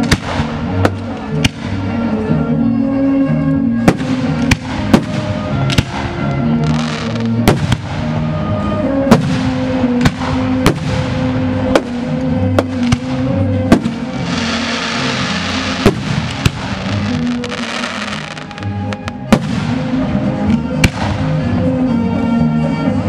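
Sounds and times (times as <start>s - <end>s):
fireworks bursting: 0.0s - 2.0s, 3.8s - 8.4s, 9.0s - 21.4s
music with long held notes: 0.0s - 23.0s.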